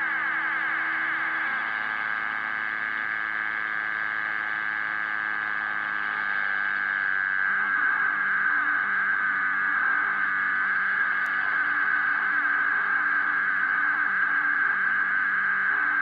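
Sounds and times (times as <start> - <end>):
radio interference hum: 0.0 - 16.0.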